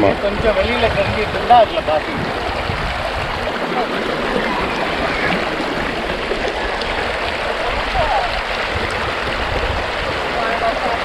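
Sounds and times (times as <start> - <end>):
river running over rocks: 0.0 - 11.0.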